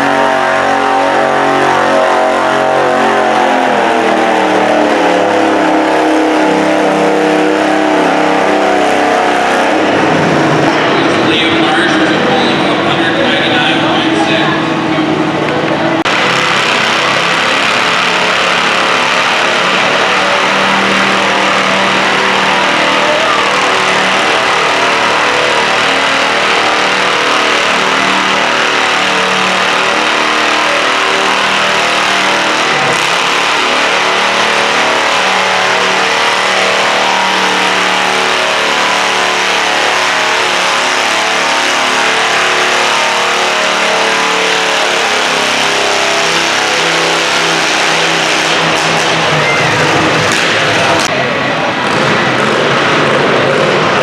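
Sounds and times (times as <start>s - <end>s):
tractor engine at high revs: 0.0s - 54.0s.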